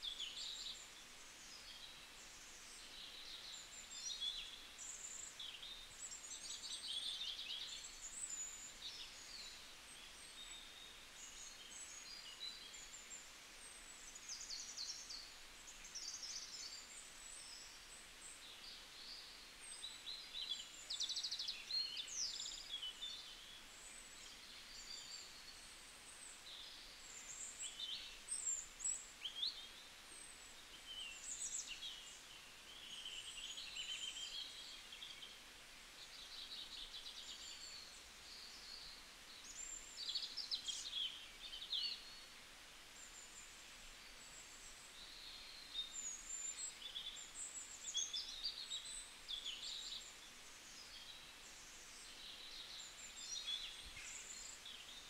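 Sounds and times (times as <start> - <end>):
faint outdoor hiss: 0.0 - 55.0
songbirds chorus: 0.0 - 55.0.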